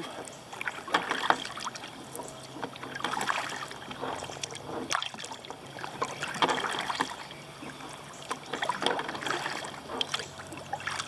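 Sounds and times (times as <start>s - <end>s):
paddle strokes splashing water: 0.0s - 11.0s.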